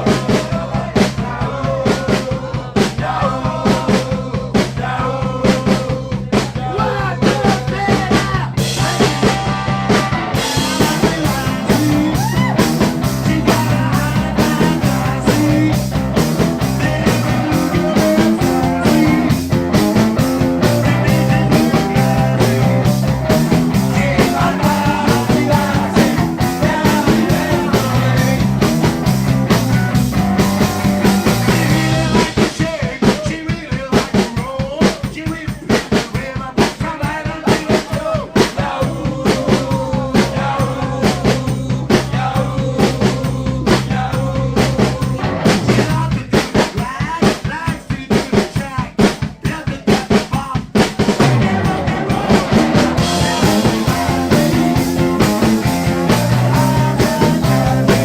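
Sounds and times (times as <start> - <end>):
fast busy drumming: 0.0 - 58.0
live rock band playing: 0.0 - 58.0.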